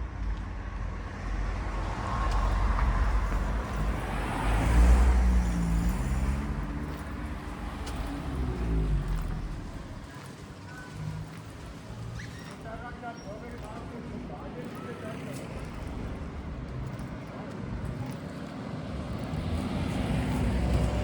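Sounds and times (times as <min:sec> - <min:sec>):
car passing by: 0:01.1 - 0:21.0.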